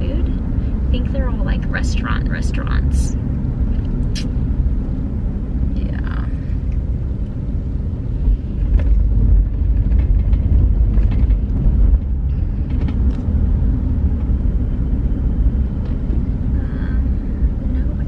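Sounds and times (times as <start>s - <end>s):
car engine rumble: 0.0s - 18.0s
tyres on road: 0.0s - 18.0s.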